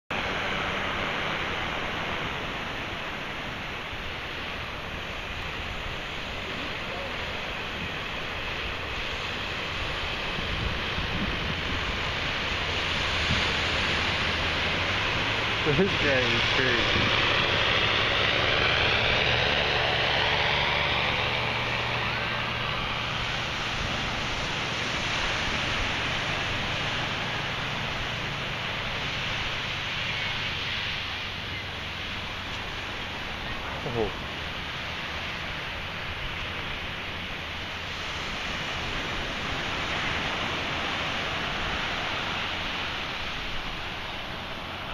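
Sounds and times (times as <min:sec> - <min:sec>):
wind: 0:00.0 - 0:44.9
ocean surf washing on beach: 0:00.1 - 0:44.9
propeller plane engine droning: 0:00.1 - 0:44.9.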